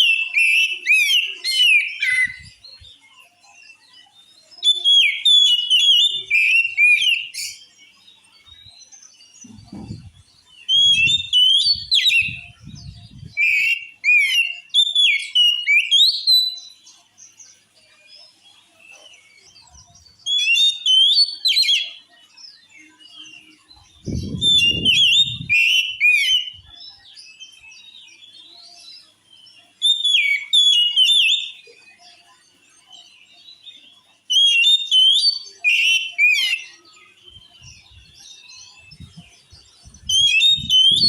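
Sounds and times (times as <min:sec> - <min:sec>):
bird singing whistled phrases: 0:00.0 - 0:07.8, 0:08.4 - 0:16.8, 0:18.9 - 0:22.0, 0:22.6 - 0:28.8, 0:29.6 - 0:31.7, 0:33.8 - 0:41.0.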